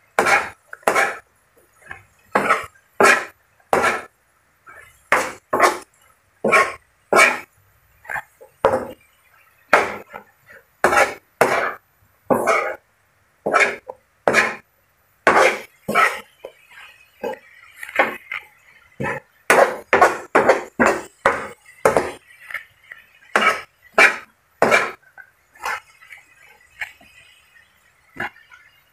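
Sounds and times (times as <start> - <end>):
metal spatula scraping a pan: 0.1 - 4.1, 4.7 - 12.8, 13.5 - 14.7, 15.3 - 27.4.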